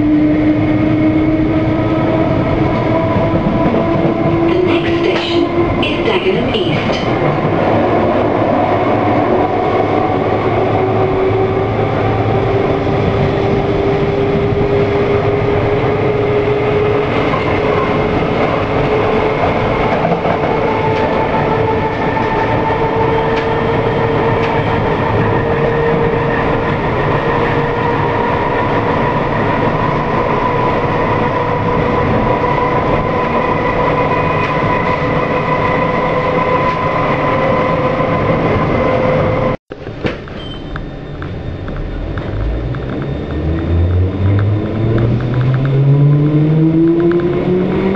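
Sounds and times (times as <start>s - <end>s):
wheels rumbling on rails: 0.0s - 47.9s.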